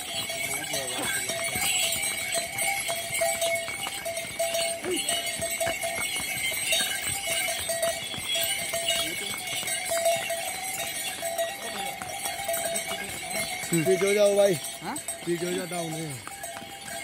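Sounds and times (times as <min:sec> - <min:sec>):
harness bells jingling: 0:00.0 - 0:17.0
hooves clopping on stone: 0:00.0 - 0:17.0.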